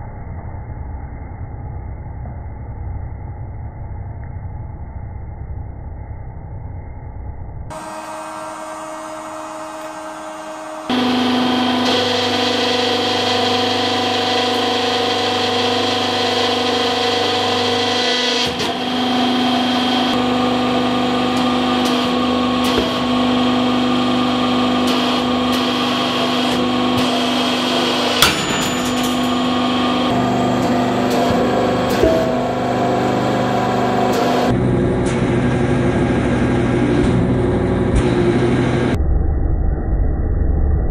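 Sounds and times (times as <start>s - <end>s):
hydraulic pump hum and whine: 0.0s - 40.9s.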